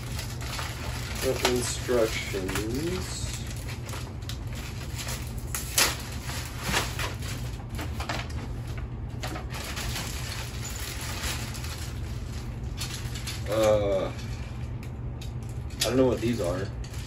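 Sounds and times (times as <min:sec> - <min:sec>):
plastic packaging crinkling: 0:00.0 - 0:13.9
steady low hum: 0:00.0 - 0:17.0.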